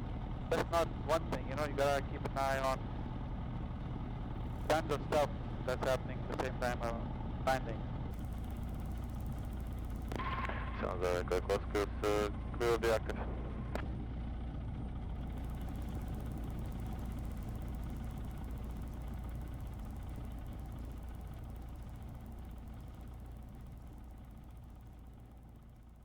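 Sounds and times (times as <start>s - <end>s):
propeller engine idling: 0.0s - 26.0s.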